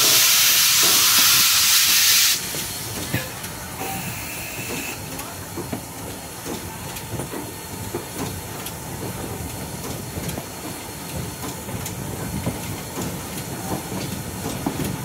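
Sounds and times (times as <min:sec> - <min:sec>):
steam train rumbling and hissing: 0:00.0 - 0:15.0.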